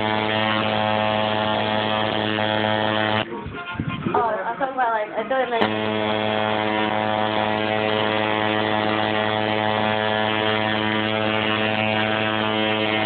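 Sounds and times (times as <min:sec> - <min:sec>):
tattoo machine buzzing: 0:00.0 - 0:03.3, 0:05.6 - 0:13.0.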